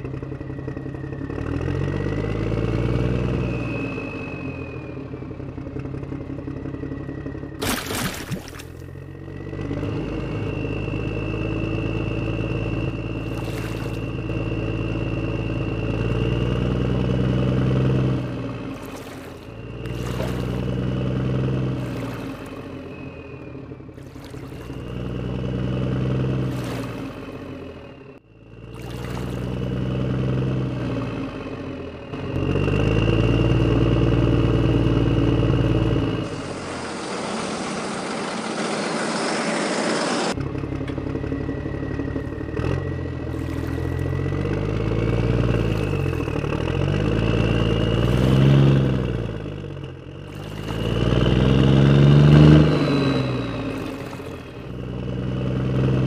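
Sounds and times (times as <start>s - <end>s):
heavy vehicle engine revving: 0.0s - 7.6s, 8.8s - 56.0s.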